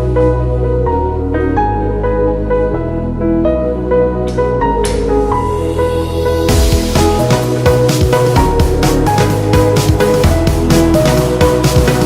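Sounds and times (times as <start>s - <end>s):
melodic music with bass: 0.0s - 12.0s.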